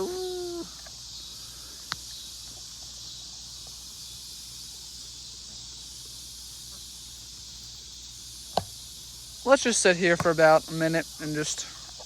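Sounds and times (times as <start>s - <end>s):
insects chirping chorus: 0.0s - 12.0s.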